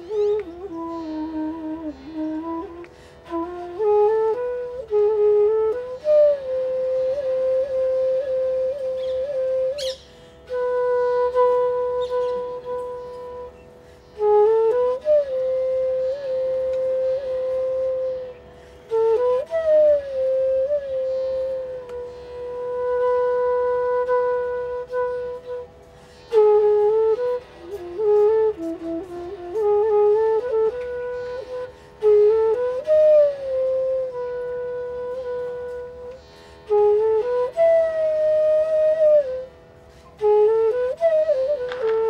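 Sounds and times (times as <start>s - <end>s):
solo flute slow melody: 0.0s - 42.0s.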